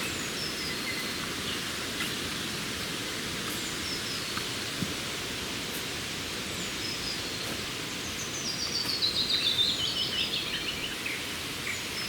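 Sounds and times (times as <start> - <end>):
forest ambience hiss: 0.0 - 12.0.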